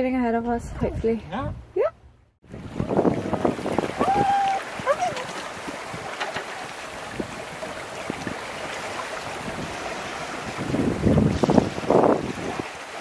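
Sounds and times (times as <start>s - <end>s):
wind over microphone: 0.3s - 13.0s
water moving along hull: 2.4s - 13.0s.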